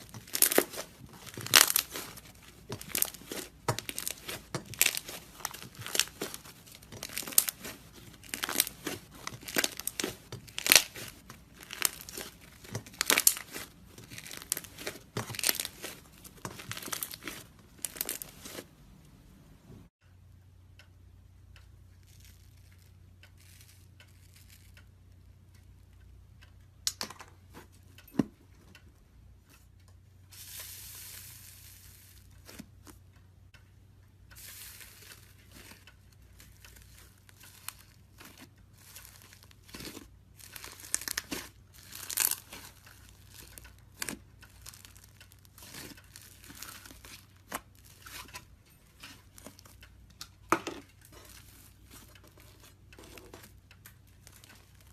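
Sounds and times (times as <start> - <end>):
slime crust crackling and crunching: 0.0 - 18.8, 22.0 - 24.8, 30.4 - 33.0, 34.3 - 54.9.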